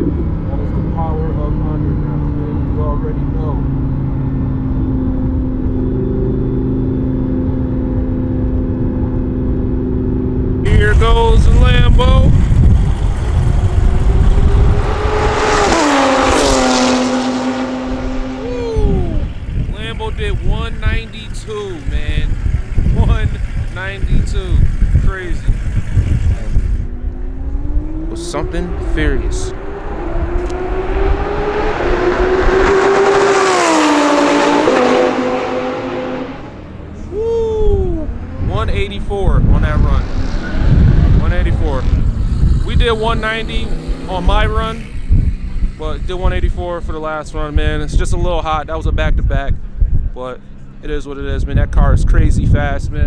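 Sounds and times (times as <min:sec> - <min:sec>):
race car passing at high speed: 0:00.0 - 0:20.9, 0:22.2 - 0:37.1, 0:38.0 - 0:47.8.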